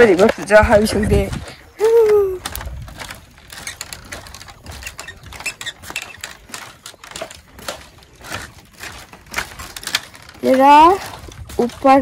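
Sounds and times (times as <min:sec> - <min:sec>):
footsteps on bamboo planks: 0:00.0 - 0:12.0.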